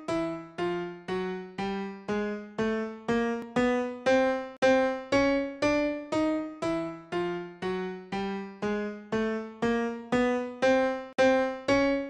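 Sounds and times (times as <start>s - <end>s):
synthesized piano rising scale: 0.0s - 12.0s.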